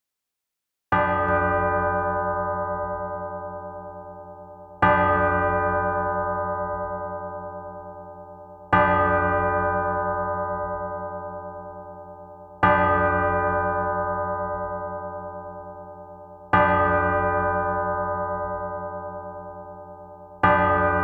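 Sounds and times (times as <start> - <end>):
church bell ringing: 1.0 - 21.0.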